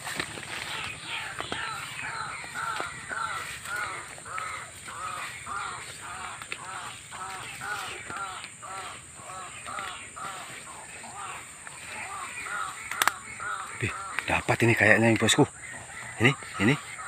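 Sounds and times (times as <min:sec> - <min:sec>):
harsh cawing bird calls: 0:00.0 - 0:17.0.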